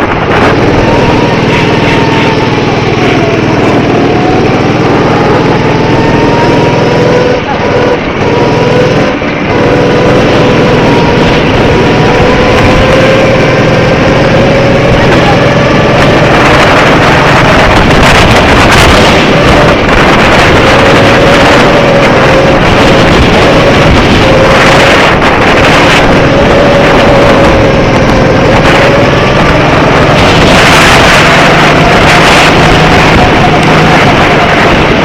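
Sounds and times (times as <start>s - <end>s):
go-kart engine whine: 0.0s - 35.0s
wind buffeting microphone: 0.0s - 35.0s.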